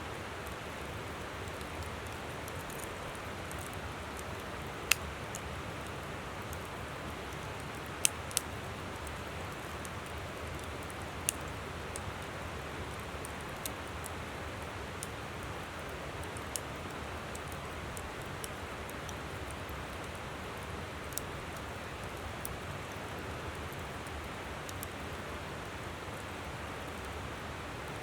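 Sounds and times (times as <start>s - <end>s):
campfire crackling and popping: 0.2s - 28.0s.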